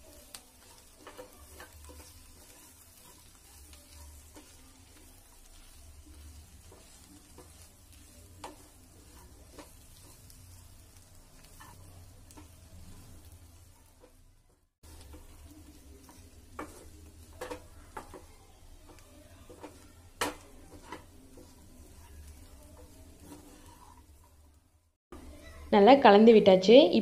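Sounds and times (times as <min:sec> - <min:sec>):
spatula scraping and tapping pan: 0:00.0 - 0:24.6
soft sizzle: 0:00.0 - 0:27.0.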